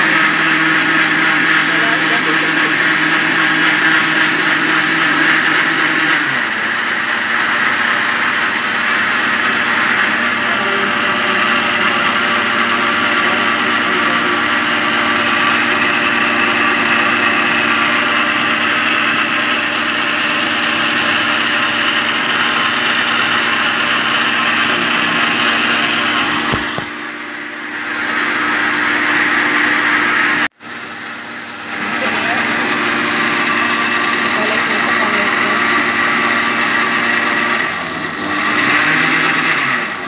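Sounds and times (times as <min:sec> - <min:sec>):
blender motor running: 0:00.0 - 0:40.0.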